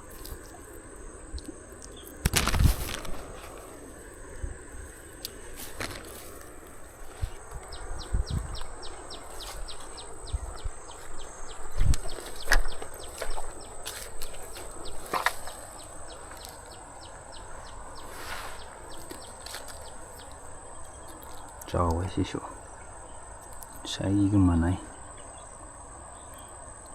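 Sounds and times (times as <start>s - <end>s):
high insect whine: 0.0s - 26.9s.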